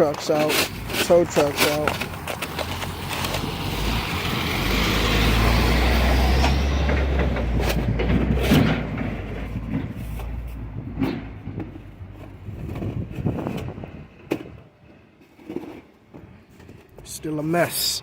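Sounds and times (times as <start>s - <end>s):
heavy truck engine rumble: 0.0s - 17.6s.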